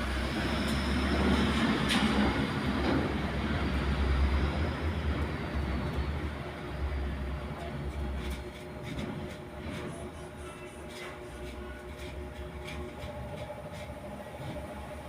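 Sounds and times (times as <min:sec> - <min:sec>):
washing machine drum rumble: 0:00.0 - 0:15.0.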